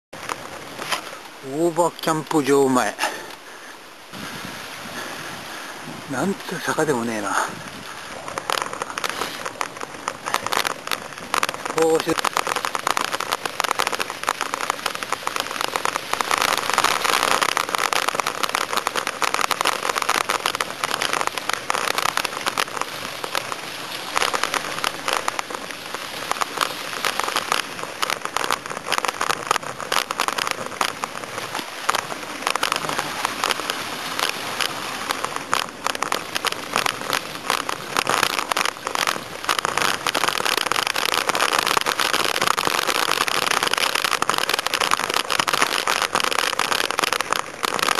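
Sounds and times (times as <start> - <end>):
tyres rolling over rough road: 5.3 - 47.9.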